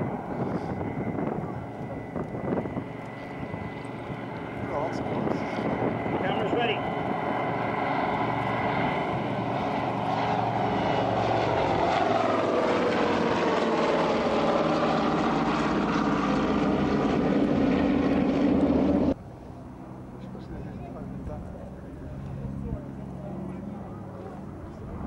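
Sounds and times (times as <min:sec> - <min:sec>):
propeller aircraft droning overhead: 0:00.0 - 0:25.0.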